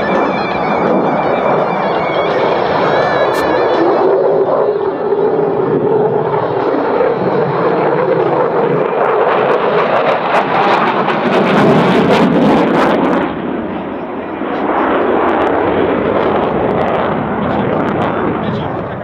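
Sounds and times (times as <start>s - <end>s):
fighter jet roaring: 0.0s - 19.0s.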